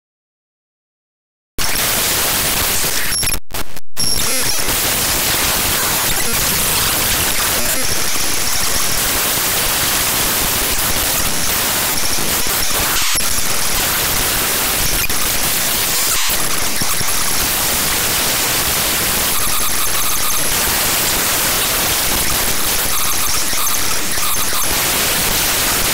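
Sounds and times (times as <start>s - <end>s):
harsh digital noise: 1.6s - 25.9s.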